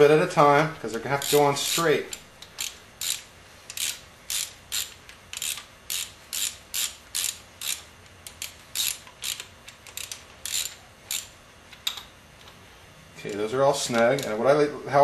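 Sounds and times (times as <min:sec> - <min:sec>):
hand ratchet clicking: 0:00.9 - 0:12.0, 0:13.3 - 0:14.4.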